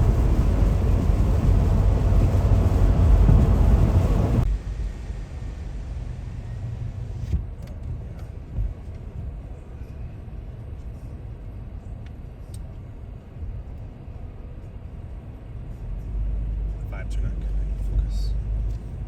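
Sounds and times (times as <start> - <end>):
car road rumble inside cabin: 0.0 - 19.0.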